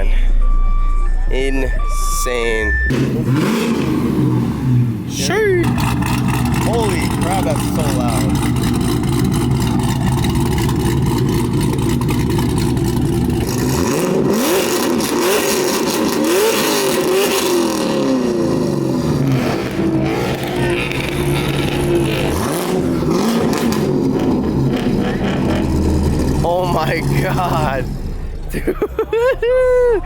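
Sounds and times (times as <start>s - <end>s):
car engine revving: 0.0s - 29.6s.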